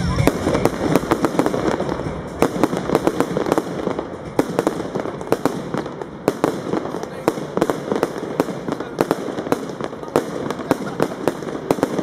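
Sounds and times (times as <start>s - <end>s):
firework bangs: 0.0s - 12.0s
firework hiss: 0.0s - 12.0s.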